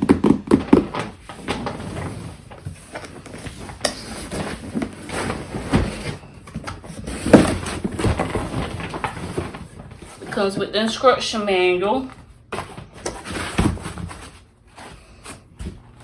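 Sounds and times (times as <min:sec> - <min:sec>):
cardboard packaging rustling: 0:00.2 - 0:11.0, 0:12.0 - 0:16.0.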